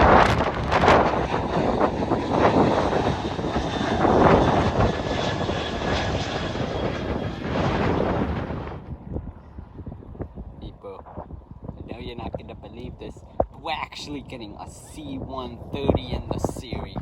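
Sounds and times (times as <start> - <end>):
airplane engines passing: 0.0 - 17.0.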